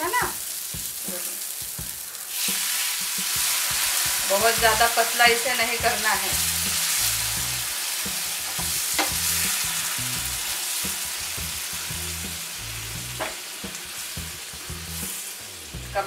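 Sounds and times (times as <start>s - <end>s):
food hissing and sizzling: 0.0s - 16.0s.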